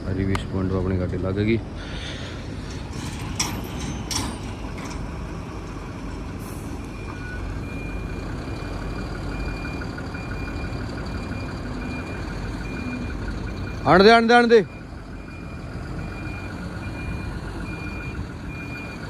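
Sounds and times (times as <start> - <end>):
diesel engine rumbling: 0.0 - 19.0
truck reverse alarm beeping: 0.4 - 19.0.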